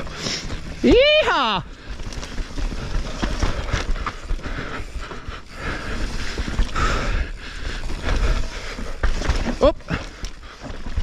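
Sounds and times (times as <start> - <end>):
bike rattling and knocking: 0.0 - 11.0
tyres rolling on dirt: 0.0 - 11.0.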